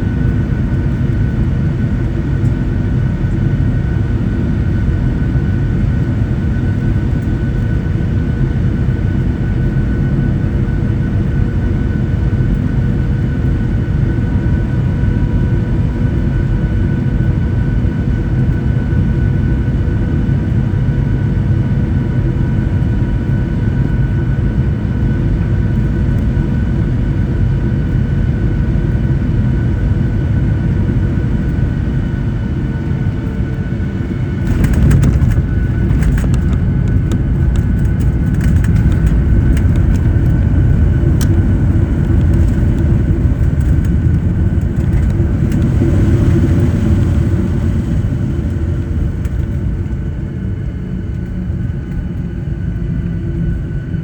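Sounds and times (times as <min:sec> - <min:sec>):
airplane cabin rumble: 0:00.0 - 0:54.0
jet engine whine: 0:00.0 - 0:54.0.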